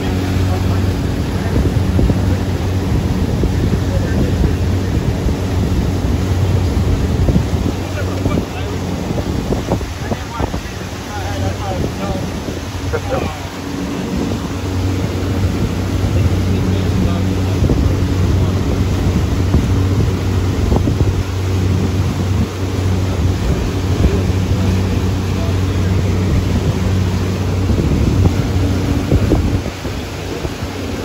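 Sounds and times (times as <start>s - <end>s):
outboard motor humming: 0.0s - 31.0s
water rushing past boat: 0.0s - 31.0s
wind buffeting microphone: 0.0s - 31.0s.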